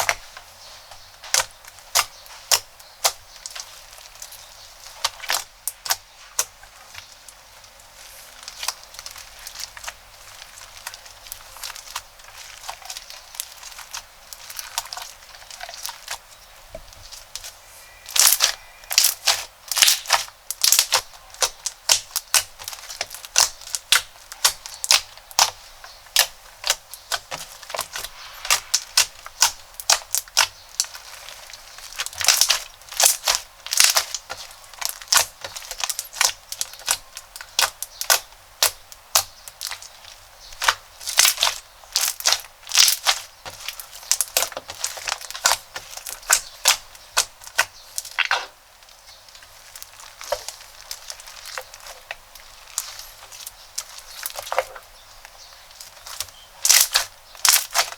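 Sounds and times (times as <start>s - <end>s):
crunchy slime crackling: 0.0s - 57.9s.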